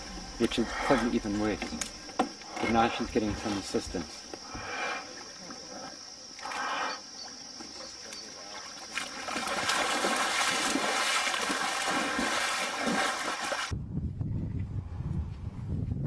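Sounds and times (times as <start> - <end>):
crickets trilling: 0.0 - 13.7.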